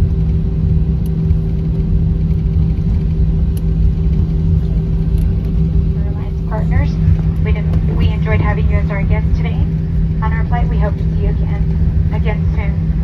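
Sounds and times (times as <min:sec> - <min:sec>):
aircraft cabin rumble: 0:00.0 - 0:13.0
droning hum: 0:00.0 - 0:13.0.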